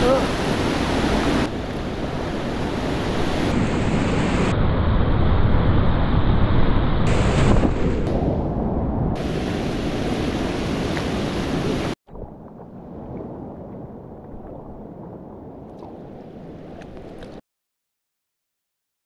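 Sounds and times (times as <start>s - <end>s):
wind noise on microphone: 0.0s - 17.4s.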